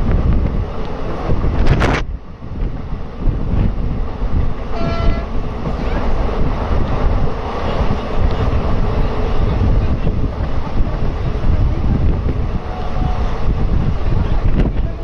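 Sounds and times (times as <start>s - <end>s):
passenger train rumbling: 0.0s - 15.0s
wind buffeting microphone: 0.0s - 15.0s.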